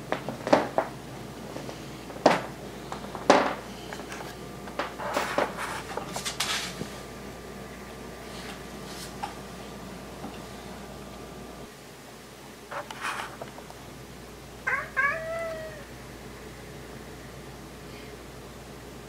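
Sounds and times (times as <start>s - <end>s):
steady room hum: 0.0s - 19.0s.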